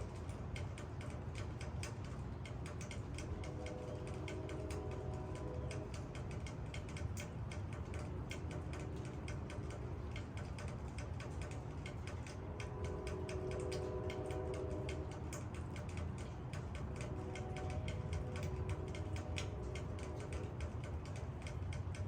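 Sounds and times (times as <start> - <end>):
raindrops ticking on leaves: 0.0 - 22.0
steady rainfall: 0.0 - 22.0.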